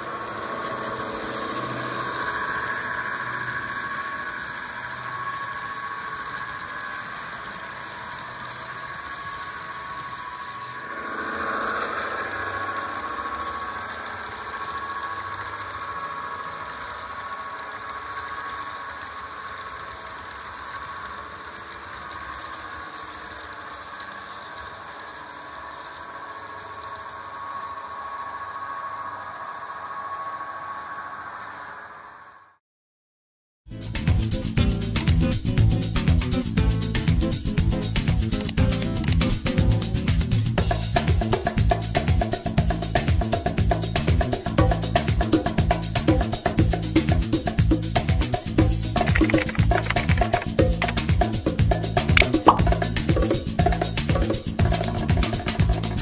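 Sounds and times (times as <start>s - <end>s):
model train mechanism on track: 0.0s - 32.2s, 33.9s - 56.0s
model locomotive diesel engine sound: 0.0s - 32.6s, 33.7s - 56.0s.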